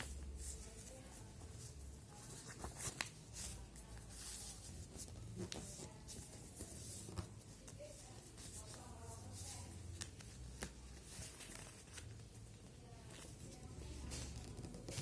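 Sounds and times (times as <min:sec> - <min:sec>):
paper rustling and folding: 0:00.0 - 0:15.0.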